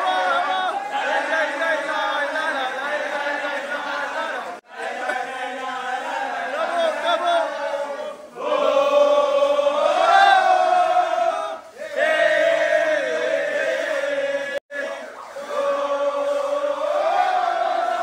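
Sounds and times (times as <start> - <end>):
men chanting in unison: 0.0 - 18.0.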